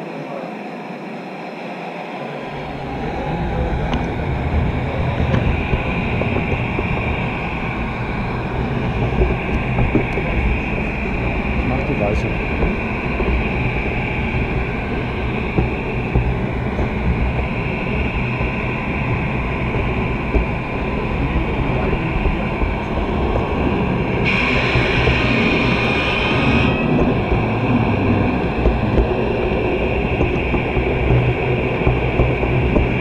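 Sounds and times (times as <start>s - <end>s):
motor whine: 0.3s - 33.0s
model train wheels on rails: 2.5s - 33.0s.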